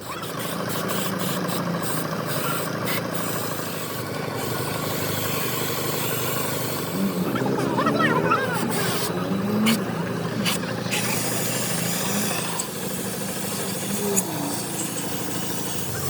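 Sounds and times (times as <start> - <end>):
machine rattling: 0.0 - 16.0.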